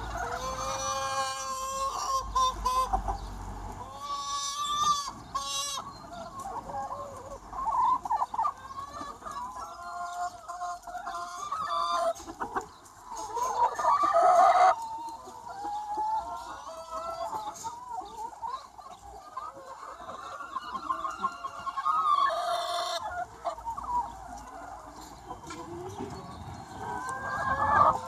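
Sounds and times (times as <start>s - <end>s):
hens clucking: 0.0s - 28.0s
hens squawking: 0.0s - 28.0s.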